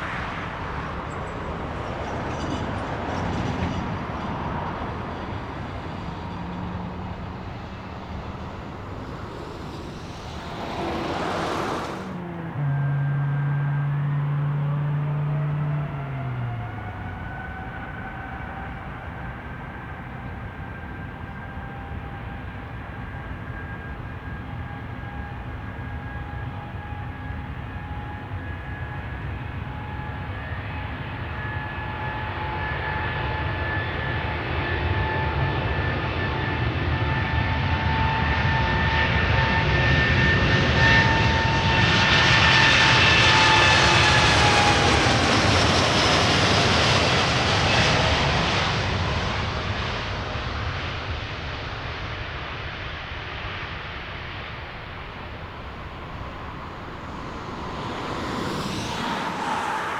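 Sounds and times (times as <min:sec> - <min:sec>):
jet airliner passing: 0:00.0 - 0:59.9.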